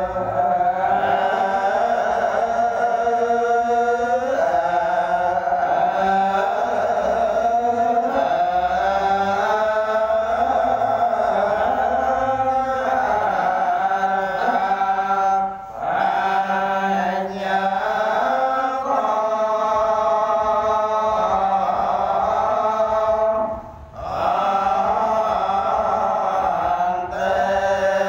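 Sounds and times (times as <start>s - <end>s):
monks chanting into microphones: 0.0s - 28.0s.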